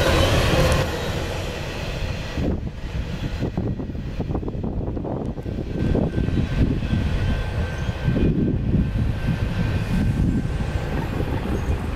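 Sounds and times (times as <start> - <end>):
train wheels rumbling on rails: 0.0 - 11.9.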